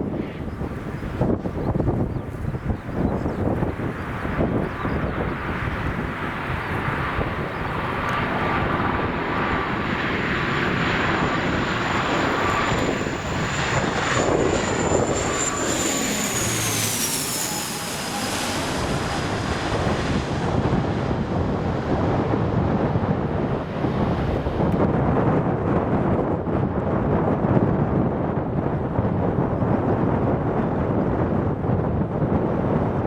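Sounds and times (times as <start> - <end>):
airliner engines whining past: 0.0 - 33.0.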